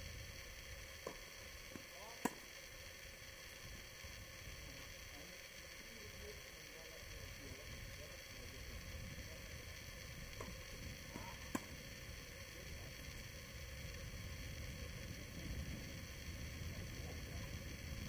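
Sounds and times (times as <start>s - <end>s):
background hiss and rumble: 0.0s - 18.0s.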